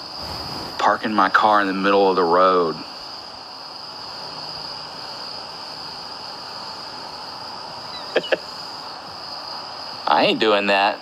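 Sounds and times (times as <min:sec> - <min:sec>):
insects trilling: 0:00.0 - 0:11.0
steady hiss: 0:00.0 - 0:11.0.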